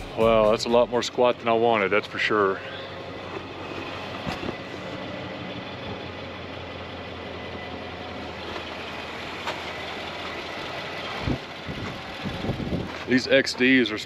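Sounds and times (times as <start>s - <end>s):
pickup engine idling: 0.0s - 14.0s.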